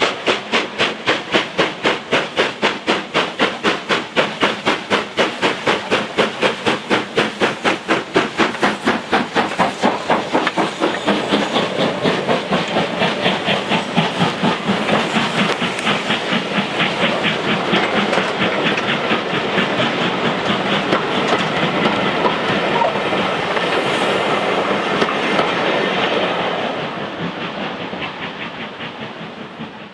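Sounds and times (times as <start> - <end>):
steam locomotive exhaust beat: 0.0 - 29.9.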